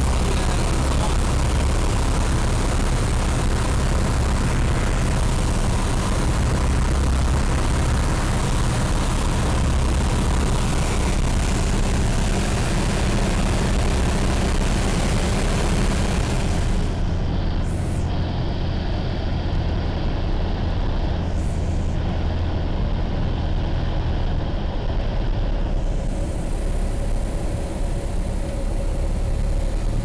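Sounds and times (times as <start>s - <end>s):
light aircraft engine and propeller drone: 0.0s - 30.0s
rushing air noise: 0.0s - 30.0s.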